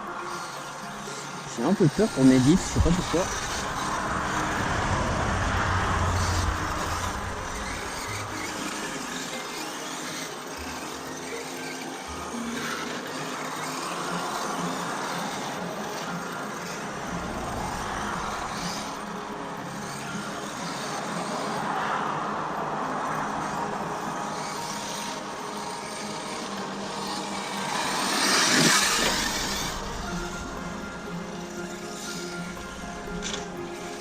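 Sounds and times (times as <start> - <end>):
rc truck motor whining: 0.0 - 34.0.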